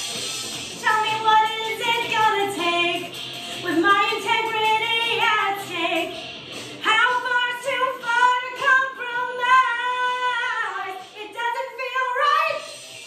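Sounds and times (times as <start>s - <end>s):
woman singing: 0.8s - 6.2s, 6.8s - 12.9s.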